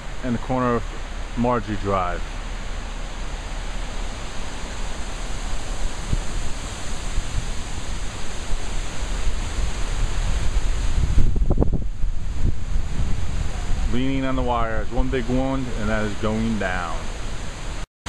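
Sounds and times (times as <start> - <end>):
wind buffeting microphone: 0.0 - 17.8
storm wind blowing hard: 1.9 - 17.8.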